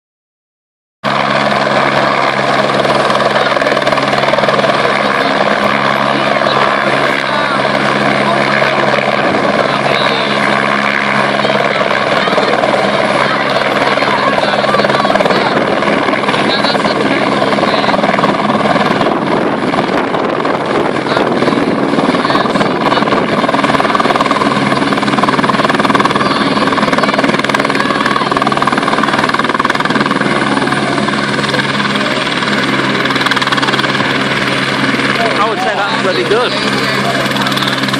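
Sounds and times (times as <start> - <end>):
helicopter engine hum: 1.0 - 37.9
helicopter rotor blades beating: 1.0 - 37.9.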